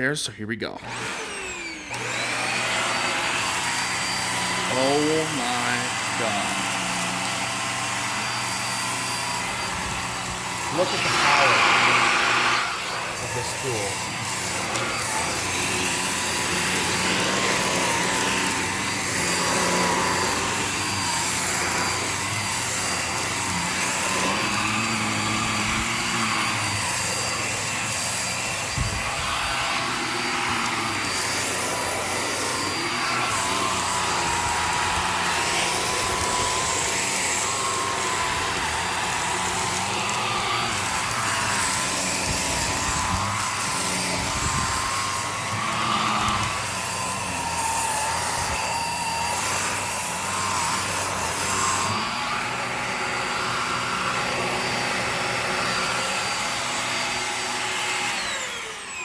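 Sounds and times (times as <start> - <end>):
vacuum cleaner on carpet: 0.7 - 59.0.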